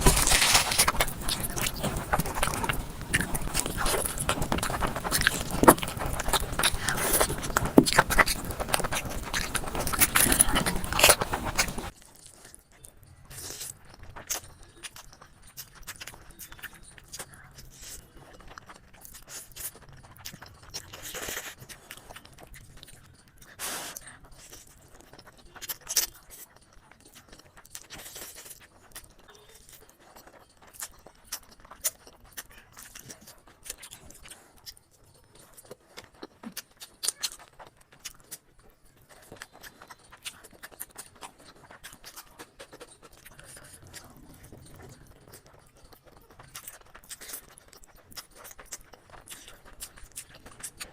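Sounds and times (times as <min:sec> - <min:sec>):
chewing and mouth clicks: 0:00.0 - 0:50.9.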